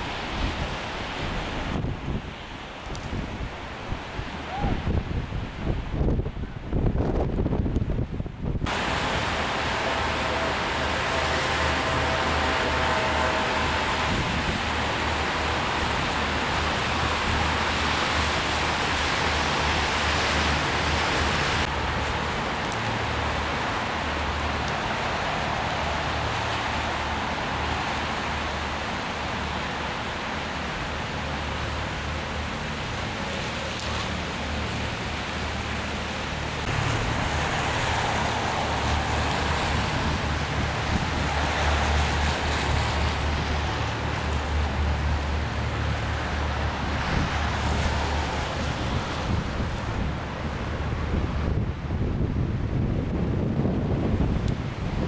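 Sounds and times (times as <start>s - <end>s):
wind buffeting microphone: 0.0s - 33.1s, 34.2s - 55.0s
outdoor rushing noise: 0.0s - 55.0s.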